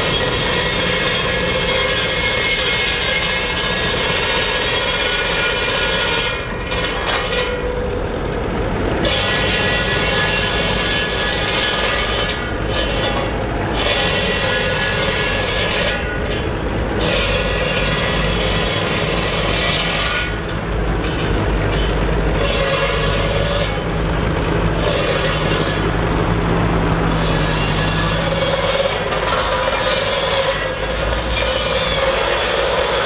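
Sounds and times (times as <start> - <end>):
circular saw cutting logs: 0.0 - 33.0
tractor engine running: 0.0 - 33.0.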